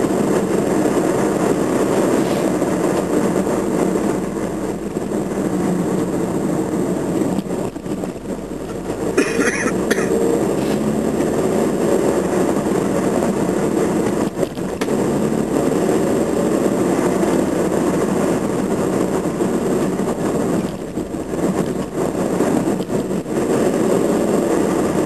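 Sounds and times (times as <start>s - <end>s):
car engine and tyre noise: 0.0s - 25.0s.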